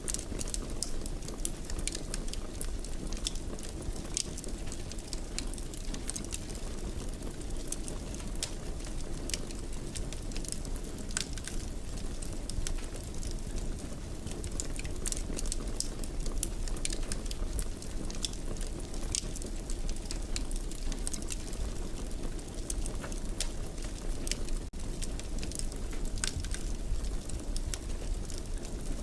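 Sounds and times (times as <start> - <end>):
fire crackling and popping: 0.0 - 29.0
fire rumbling: 0.0 - 29.0.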